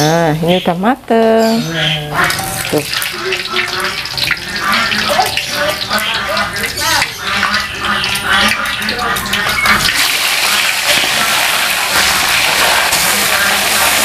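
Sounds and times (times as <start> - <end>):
hot oil bubbling and sizzling: 1.5 - 14.0.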